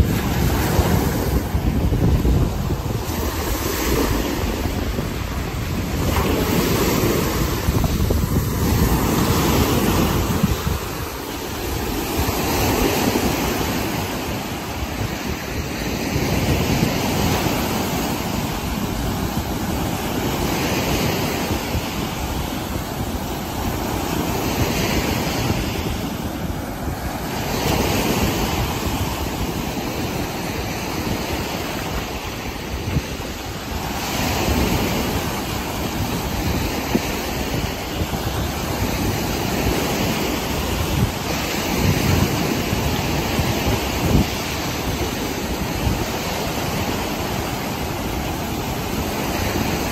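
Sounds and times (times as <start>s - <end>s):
waves washing up a beach: 0.0s - 49.9s
wind rumbling on microphone: 0.0s - 49.9s.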